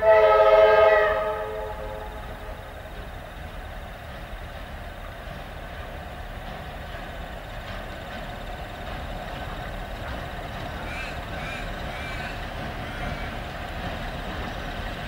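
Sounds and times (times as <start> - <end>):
train engine rumble: 0.0 - 15.0.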